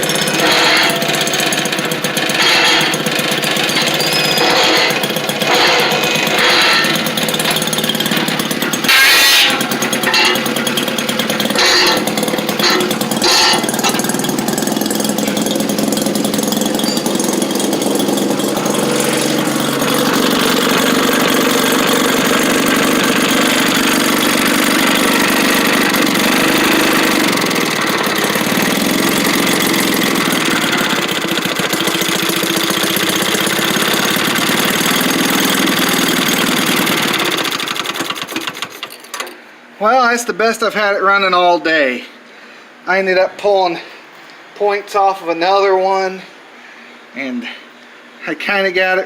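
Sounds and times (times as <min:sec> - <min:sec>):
two-stroke engine running: 0:00.0 - 0:39.4.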